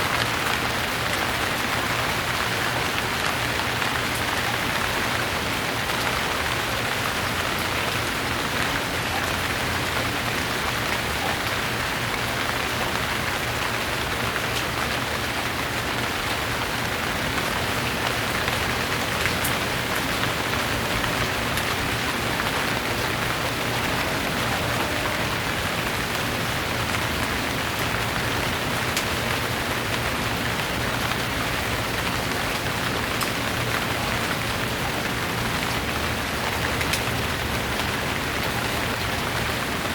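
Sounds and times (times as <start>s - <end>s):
raindrops ticking: 0.0s - 39.9s
steady rain: 0.0s - 39.9s.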